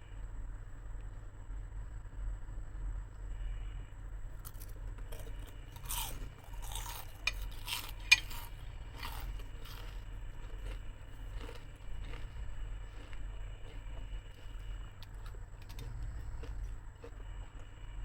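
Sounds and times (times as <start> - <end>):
steady low hum: 0.0 - 18.0
crunchy chewing: 2.9 - 18.0.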